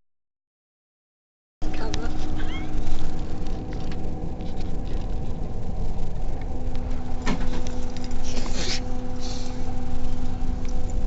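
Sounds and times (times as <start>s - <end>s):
bus engine and road drone: 1.6s - 11.0s
low hum: 1.6s - 11.0s.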